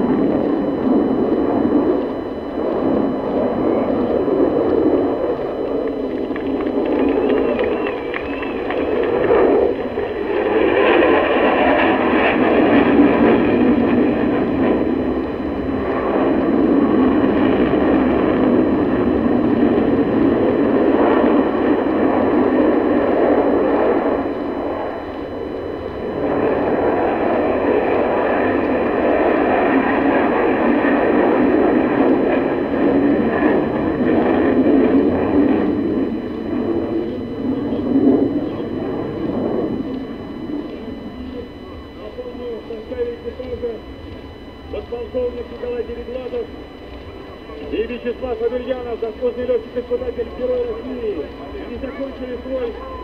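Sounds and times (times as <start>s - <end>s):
jet engines roaring overhead: 0.0s - 53.0s.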